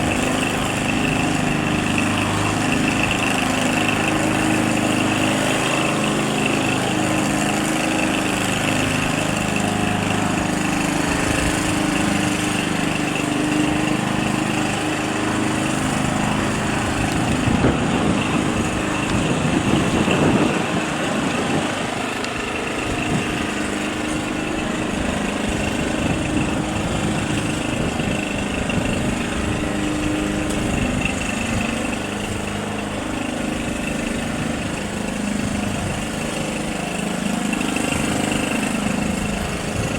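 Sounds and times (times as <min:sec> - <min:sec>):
small piston engine running: 0:00.0 - 0:39.9.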